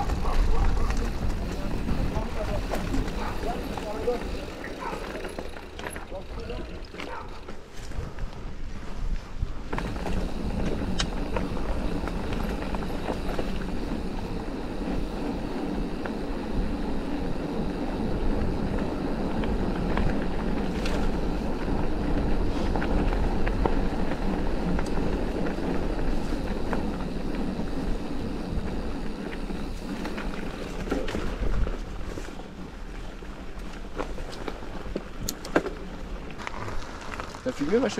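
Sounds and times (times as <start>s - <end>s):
bike clicks and knocks: 0.0s - 8.5s, 9.7s - 17.8s, 18.4s - 27.8s, 28.4s - 32.4s, 33.0s - 37.9s
bike tyre and wind rush: 0.0s - 37.9s.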